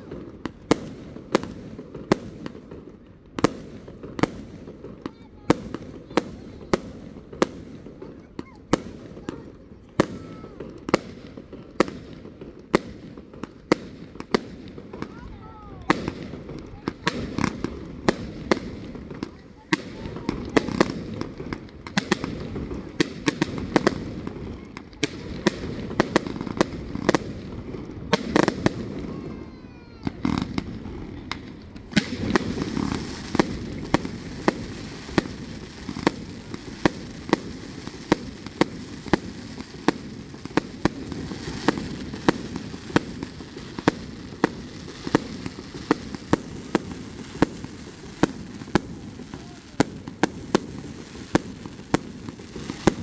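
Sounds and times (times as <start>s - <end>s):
firework bursts and crackles: 0.0s - 53.0s.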